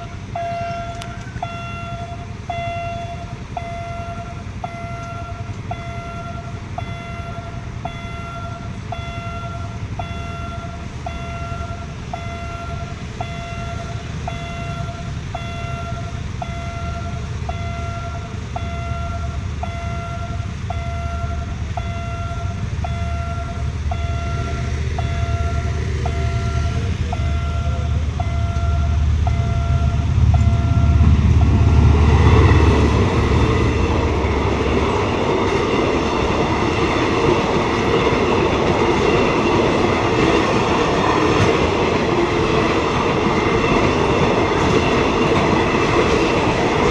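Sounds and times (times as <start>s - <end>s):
level crossing bell beeping: 0.0s - 42.0s
diesel locomotive engine rumble: 0.0s - 46.9s
train carriages running past: 0.0s - 46.9s.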